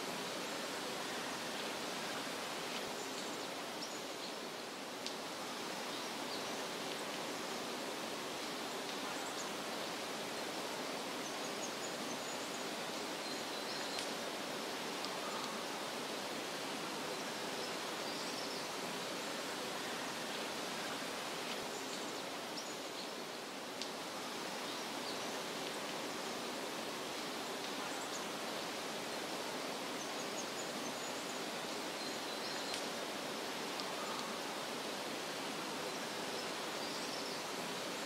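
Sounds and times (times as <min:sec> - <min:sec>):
steady rushing hiss: 0:00.0 - 0:38.0.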